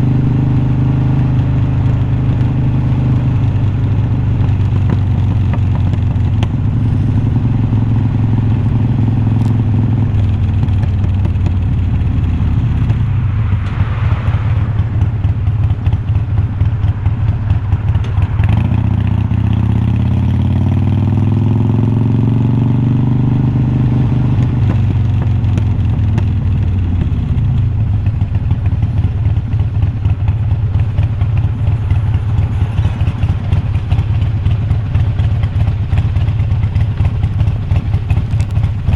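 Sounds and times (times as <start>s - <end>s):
motorcycle accelerating: 0.0s - 38.9s
motorcycle exhaust: 0.0s - 38.9s.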